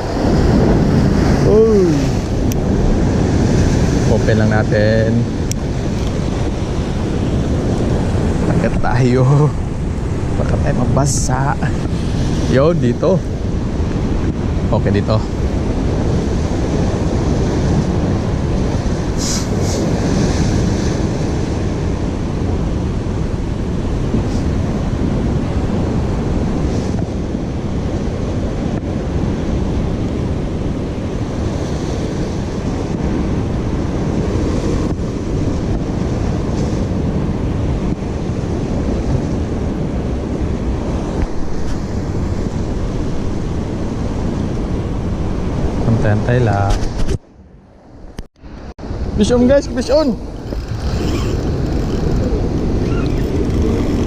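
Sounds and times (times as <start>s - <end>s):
waves washing against rocks: 0.0s - 45.8s, 48.9s - 54.0s
wind rumbling on microphone: 0.0s - 54.0s.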